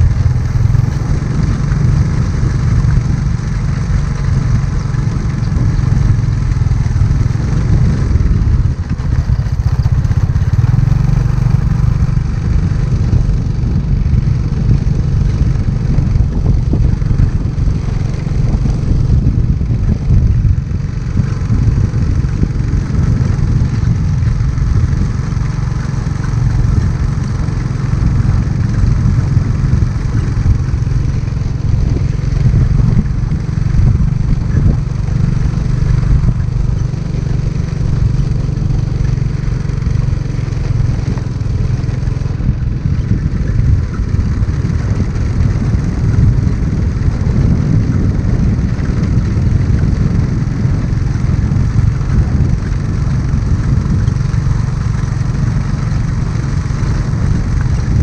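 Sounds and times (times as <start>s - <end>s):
motorcycle engine running: 0.0s - 58.0s
wind rumble on microphone: 0.0s - 58.0s.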